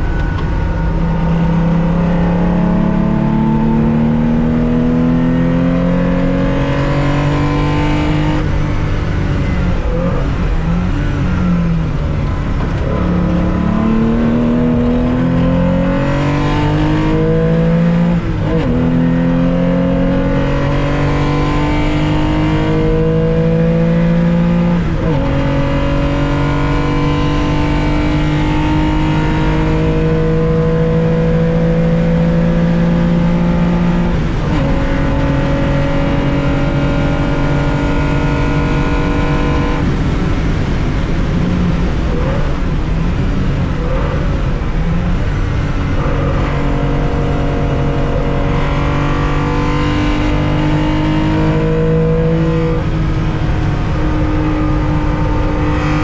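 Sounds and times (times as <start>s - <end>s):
racing car engine revving: 0.0s - 56.0s.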